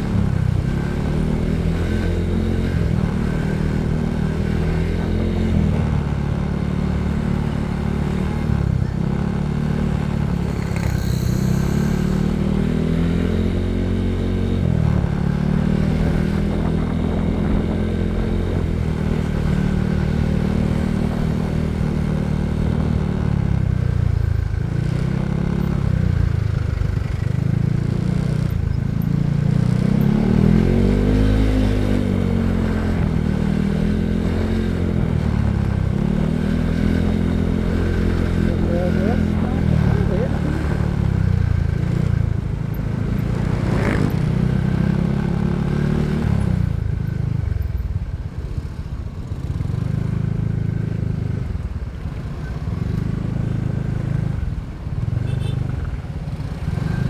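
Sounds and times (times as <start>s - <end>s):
motorcycle engine revving: 0.0s - 47.6s, 48.2s - 57.0s.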